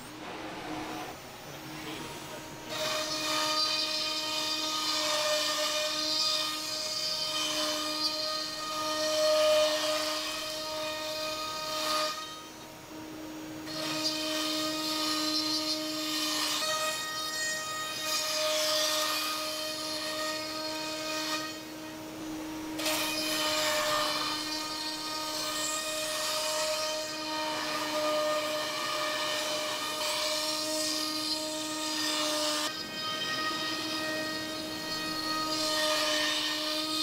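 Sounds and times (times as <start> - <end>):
router spindle whining: 0.0 - 37.0.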